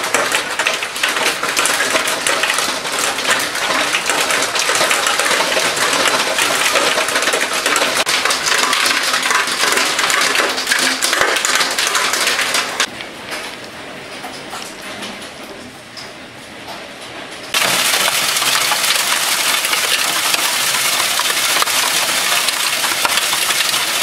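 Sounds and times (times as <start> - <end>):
heavy rain on hard surfaces: 0.0 - 15.3, 17.5 - 24.0.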